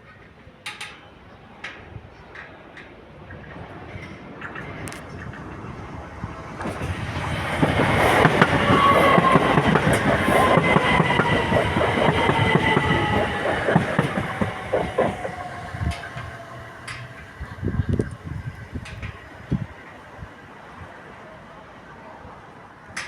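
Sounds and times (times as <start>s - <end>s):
train wheels clattering: 0.0s - 20.1s.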